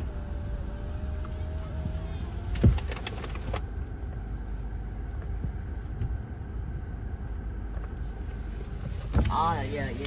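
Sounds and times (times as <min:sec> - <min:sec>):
car road rumble: 0:00.0 - 0:10.0.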